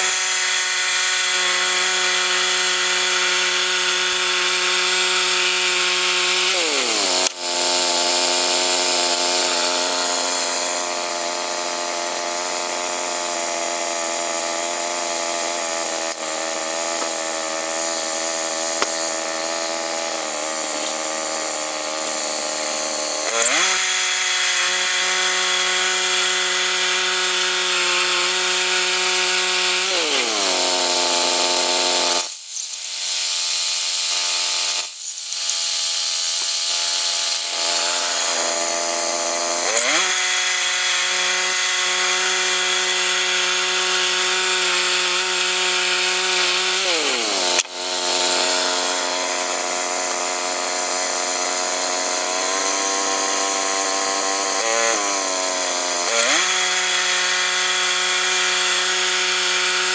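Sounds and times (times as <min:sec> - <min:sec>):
gas-engine saw cutting wood: 0:00.0 - 0:59.9.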